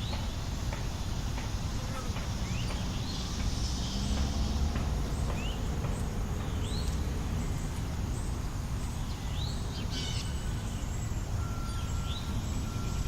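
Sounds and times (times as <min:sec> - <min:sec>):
distant traffic rumble: 0:00.0 - 0:13.0
wind: 0:00.0 - 0:13.0
bird chirping: 0:02.4 - 0:13.0.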